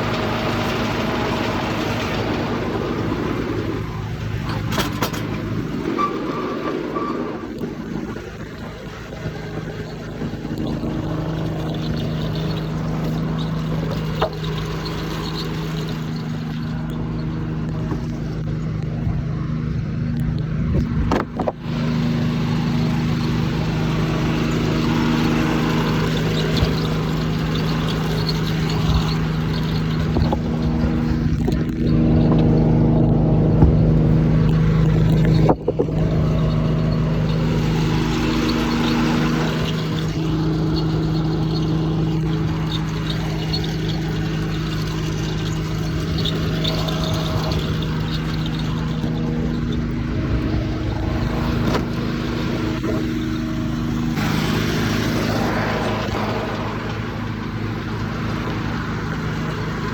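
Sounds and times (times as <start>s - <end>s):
muffled diesel engine drone: 0.0s - 59.9s.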